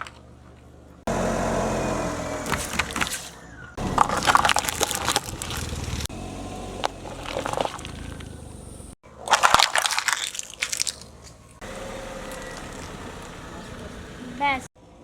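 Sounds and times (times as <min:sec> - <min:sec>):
car tyres crushing objects: 0:00.0 - 0:14.2.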